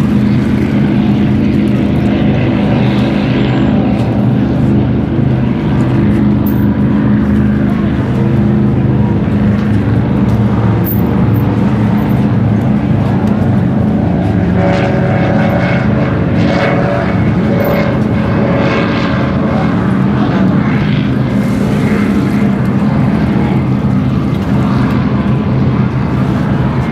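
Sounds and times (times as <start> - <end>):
higher engine note: 0.0 - 26.9
powerboat engines droning: 0.0 - 26.9.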